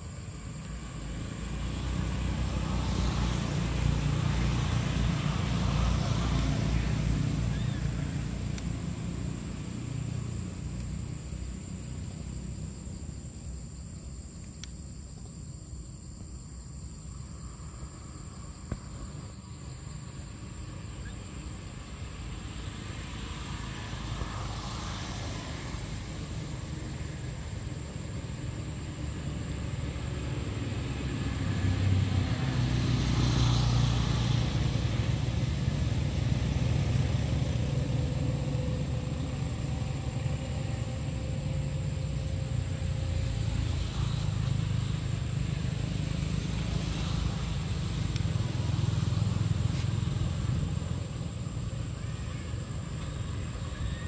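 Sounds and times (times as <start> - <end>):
faint engine tone: 0.0 - 14.6, 15.2 - 54.0
road traffic rumble: 0.0 - 54.0.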